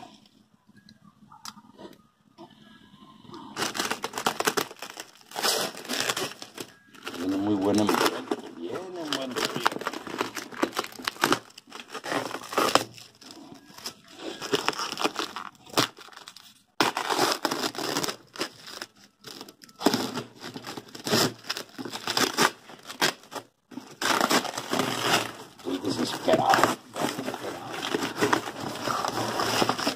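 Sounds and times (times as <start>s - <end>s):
plastic and cardboard tearing: 3.6s - 29.9s.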